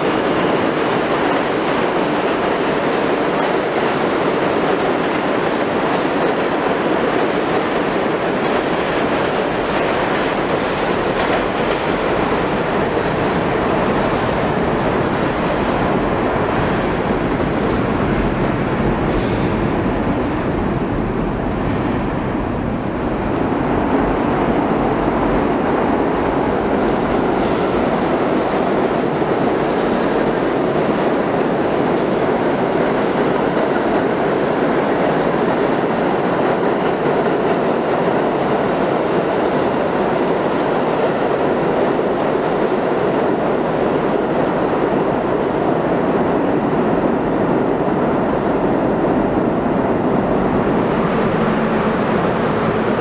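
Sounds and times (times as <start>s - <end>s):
subway train wheels rumbling: 0.0s - 53.0s.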